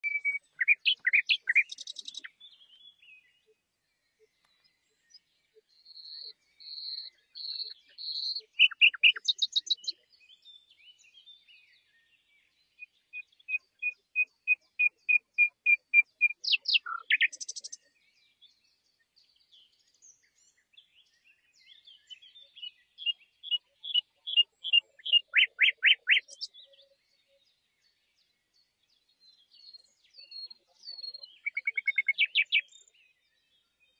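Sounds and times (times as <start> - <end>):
songbird singing: 0.0 - 33.9.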